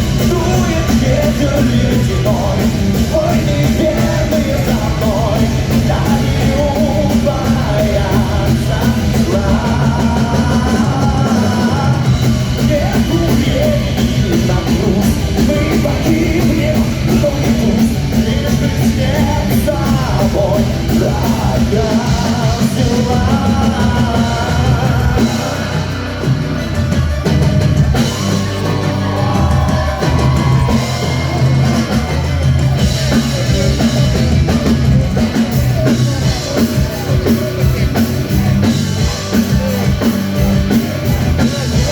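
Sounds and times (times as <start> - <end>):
drum kit beat: 0.0 - 41.9
heavy metal band playing live: 0.0 - 41.9
person singing: 0.0 - 41.9.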